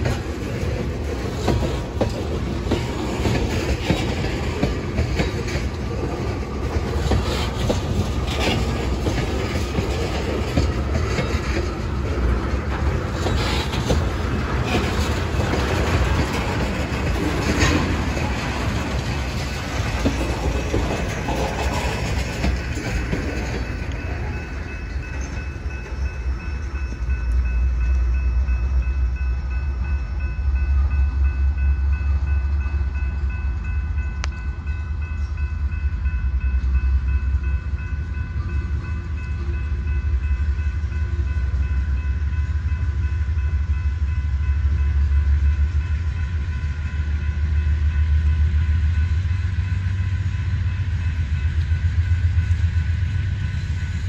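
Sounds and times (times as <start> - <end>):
diesel locomotive rumbling: 0.0 - 54.0.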